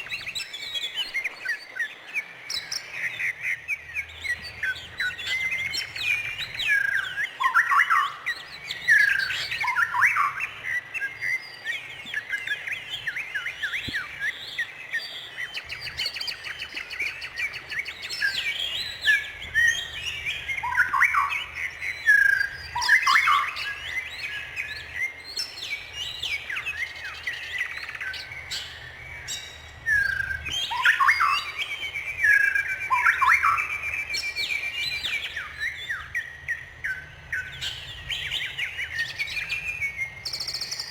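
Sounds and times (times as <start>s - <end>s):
bird trill: 0.0s - 40.9s
birds chirping and calling: 0.0s - 40.9s.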